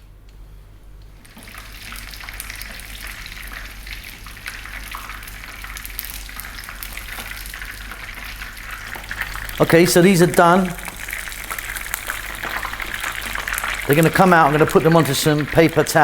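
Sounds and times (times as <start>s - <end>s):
chicken frying in oil: 1.2s - 16.0s.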